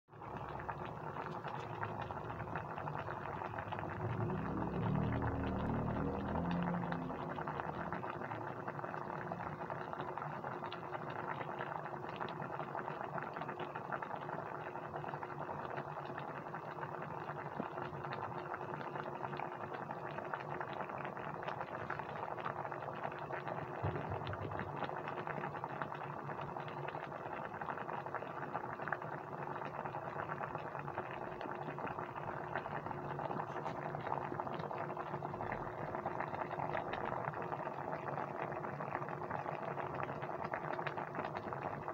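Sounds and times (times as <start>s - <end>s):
braising liquid boiling with popping bubbles: 0.1s - 41.9s.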